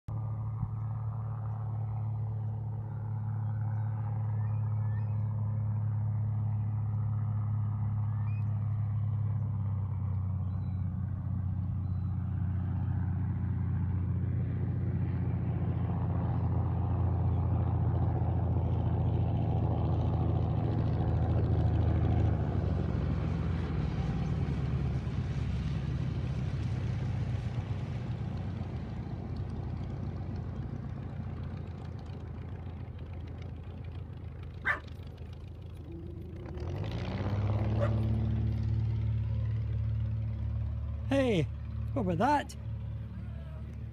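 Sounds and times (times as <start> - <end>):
plane landing on water rushing: 0.1 - 43.9
propeller engine running: 0.1 - 43.9.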